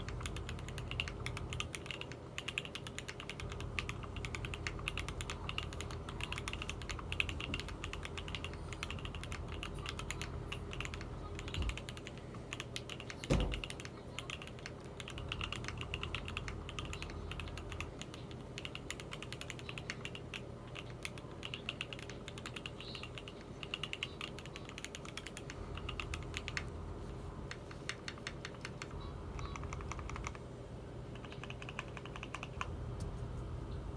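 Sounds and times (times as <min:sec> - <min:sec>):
mechanical keyboard typing: 0:00.0 - 0:26.8, 0:27.4 - 0:30.4, 0:31.1 - 0:32.8
faint steady hum: 0:00.0 - 0:33.9.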